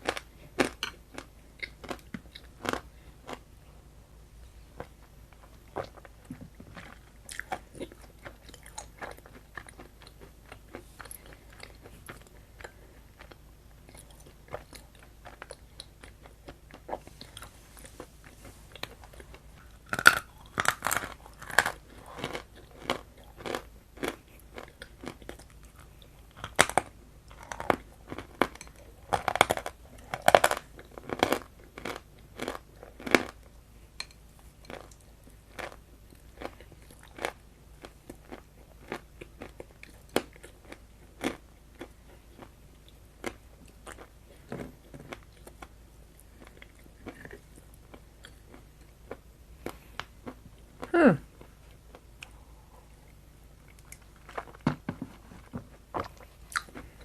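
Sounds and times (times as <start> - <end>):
crunchy chewing of food: 0.0 - 3.5, 4.6 - 57.0.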